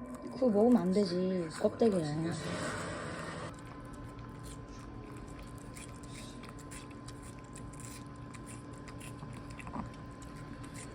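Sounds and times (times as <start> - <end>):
dog chewing watermelon: 0.0 - 10.9.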